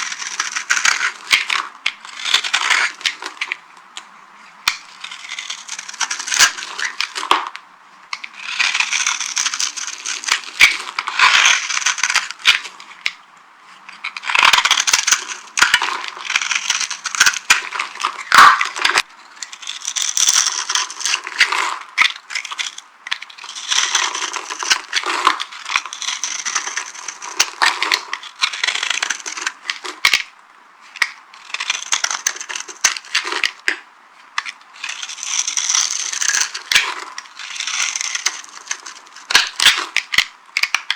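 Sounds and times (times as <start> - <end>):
dry soap crunching: 0.0 - 3.6, 4.6 - 13.2, 13.8 - 33.8, 34.4 - 40.9.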